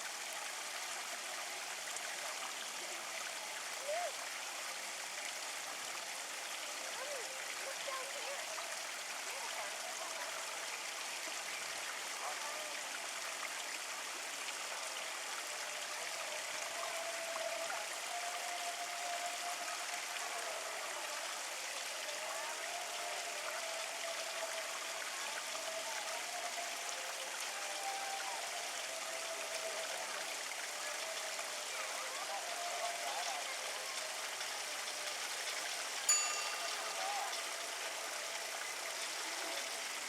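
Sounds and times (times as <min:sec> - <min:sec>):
running water: 0:00.0 - 0:40.0.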